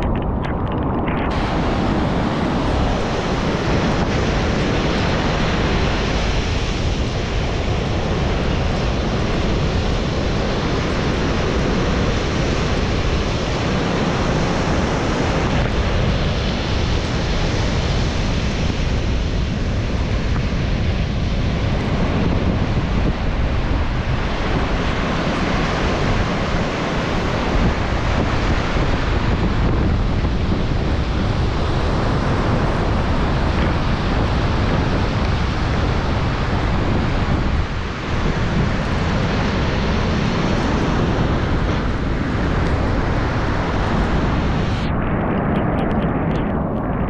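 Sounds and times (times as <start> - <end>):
surf breaking on beach: 0.0 - 47.0
wind buffeting microphone: 0.0 - 47.0.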